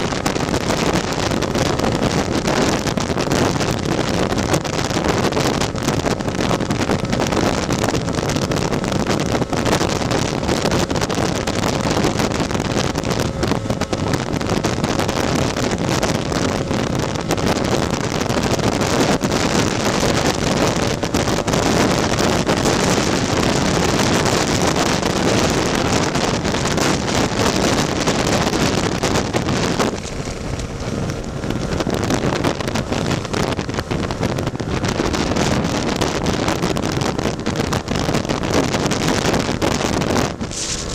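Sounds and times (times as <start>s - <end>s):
scooter engine running at speed: 0.0s - 40.9s
wind buffeting microphone: 0.0s - 40.9s.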